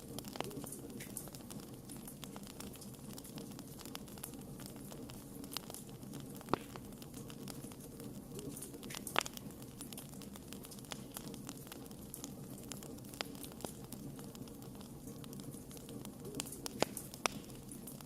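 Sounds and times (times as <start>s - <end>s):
campfire crackling: 0.0s - 18.0s
sharp fire pops: 0.0s - 18.0s.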